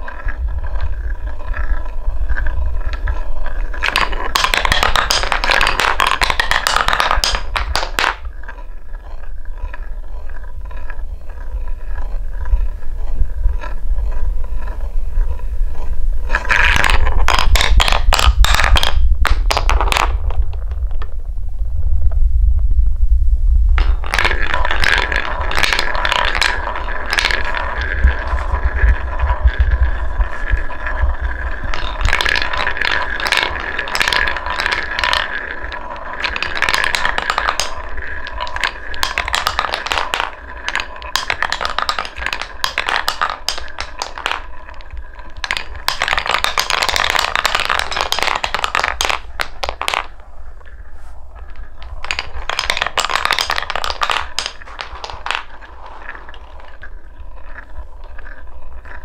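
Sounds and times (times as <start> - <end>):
balls clacking: 0.0 - 22.2, 23.7 - 59.0
balls rolling in wooden bowl: 0.0 - 22.2, 23.7 - 59.0.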